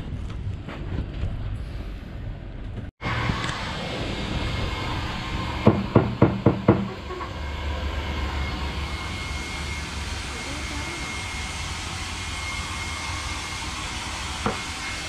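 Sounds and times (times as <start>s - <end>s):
electric fan whirring: 2.4s - 15.0s.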